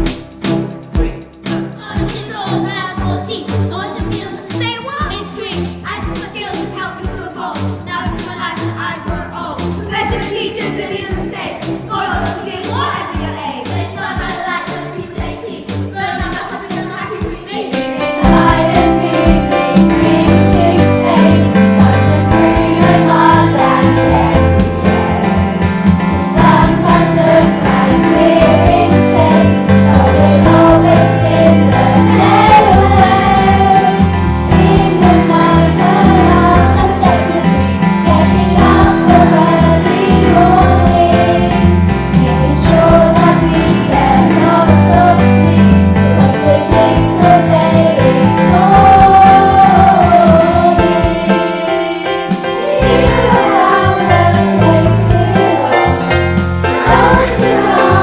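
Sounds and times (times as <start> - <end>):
instrumental accompaniment: 0.0 - 58.0
children's choir singing: 9.0 - 58.0.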